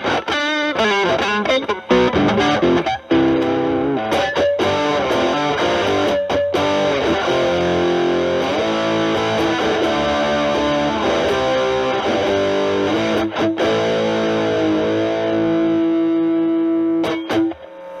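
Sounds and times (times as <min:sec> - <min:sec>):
overdriven electric guitar lead: 0:00.0 - 0:17.7.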